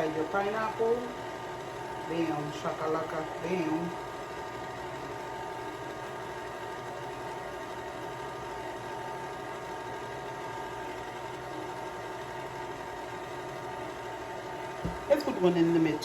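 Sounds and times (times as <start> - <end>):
machine hum with constant tones: 0.0 - 16.0.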